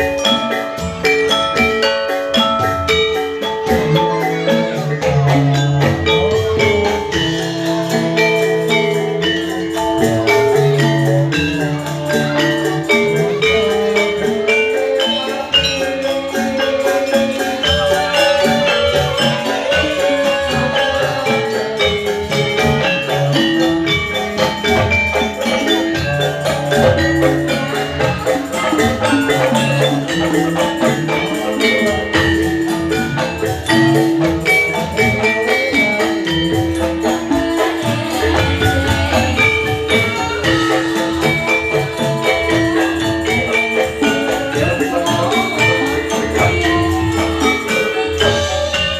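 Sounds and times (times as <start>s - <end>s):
gamelan metallophone runs: 0.0s - 48.9s.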